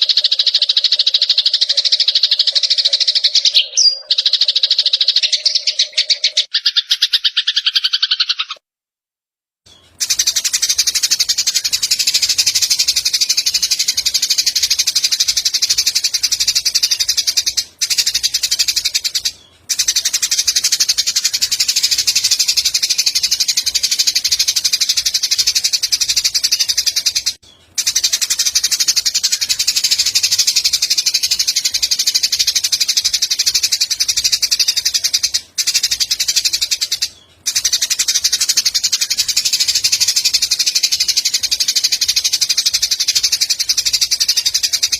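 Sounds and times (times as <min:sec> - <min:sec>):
sparrows chattering: 0:00.0 - 0:08.6, 0:09.7 - 0:44.9.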